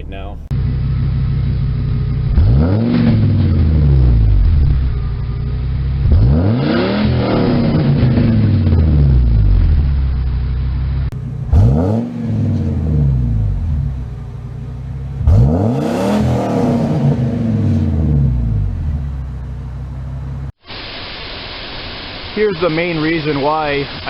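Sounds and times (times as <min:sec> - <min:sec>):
van engine revving and idling: 0:00.0 - 0:20.6.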